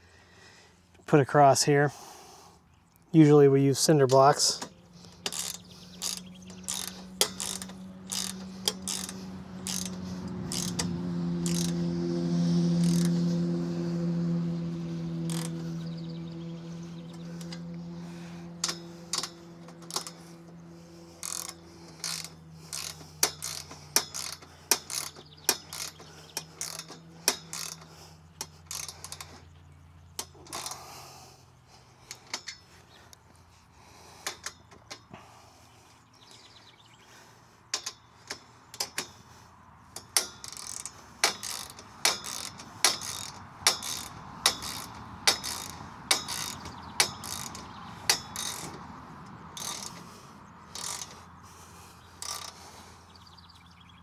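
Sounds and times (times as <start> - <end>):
ratchet wrench clicking: 3.8 - 31.2, 33.9 - 35.1, 37.8 - 53.1.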